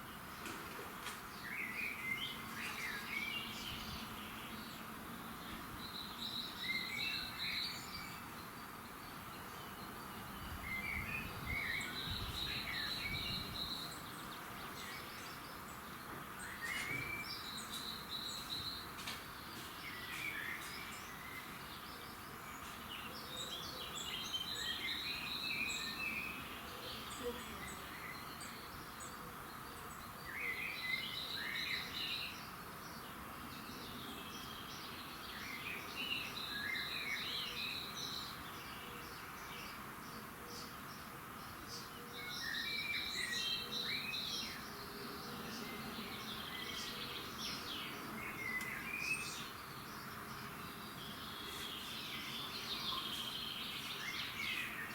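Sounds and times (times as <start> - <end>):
birds chirping: 0.0 - 54.9
steady background hiss: 0.0 - 54.9.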